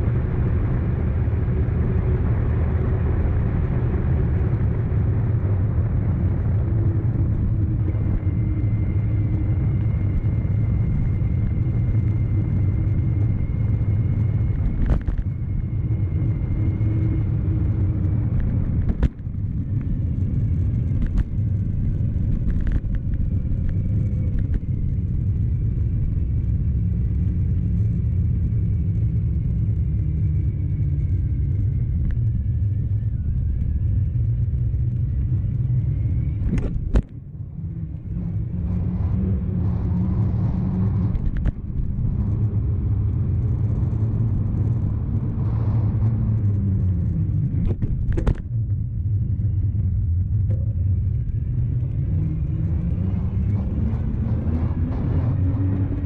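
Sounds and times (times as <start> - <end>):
low riding rumble: 0.0 - 56.0.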